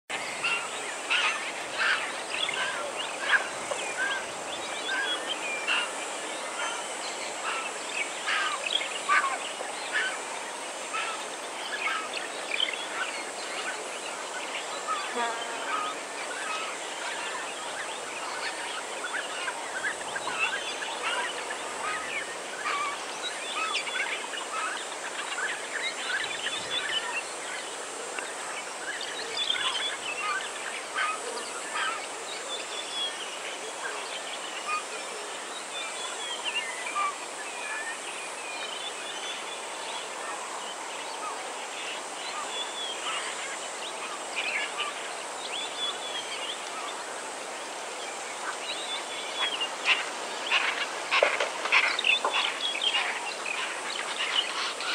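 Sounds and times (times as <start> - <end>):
steady background hiss: 0.1 - 54.9.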